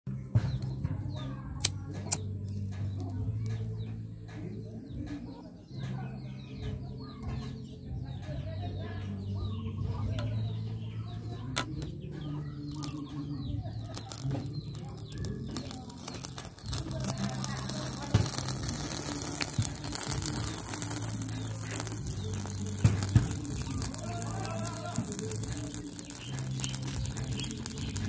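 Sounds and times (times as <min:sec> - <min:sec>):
birds calling: 0:02.2 - 0:28.0.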